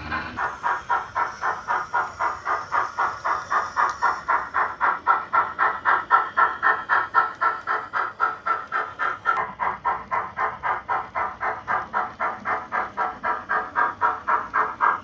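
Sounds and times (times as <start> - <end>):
model steam locomotive chuffing: 0.0 - 15.0.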